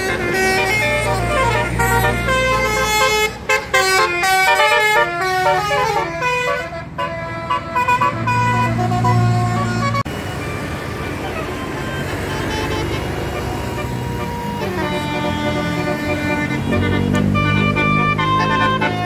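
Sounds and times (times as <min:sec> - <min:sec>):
bus engine rumble: 0:00.0 - 0:19.0
musical bus horn melody: 0:00.0 - 0:19.0.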